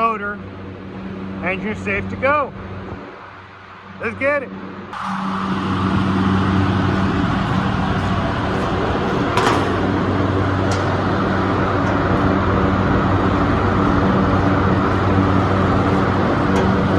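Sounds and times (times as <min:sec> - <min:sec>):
fan motors humming: 0:00.0 - 0:16.9.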